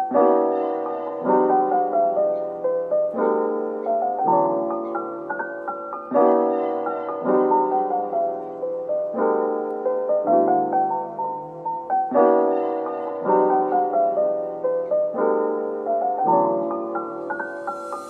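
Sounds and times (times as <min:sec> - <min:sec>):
soft piano piece: 0:00.0 - 0:18.0.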